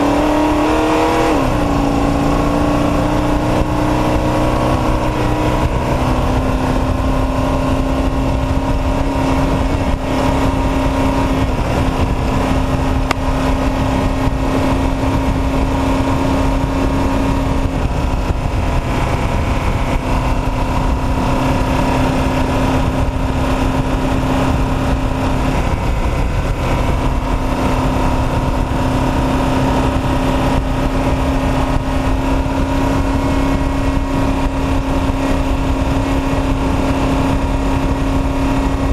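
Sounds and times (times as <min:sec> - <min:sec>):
race truck engine running hard: 0:00.0 - 0:38.9
wind and road noise: 0:00.0 - 0:38.9.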